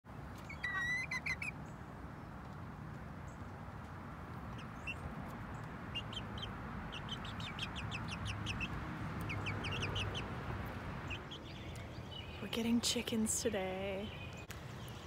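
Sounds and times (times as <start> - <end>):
young hens chirping: 0.3 - 15.0.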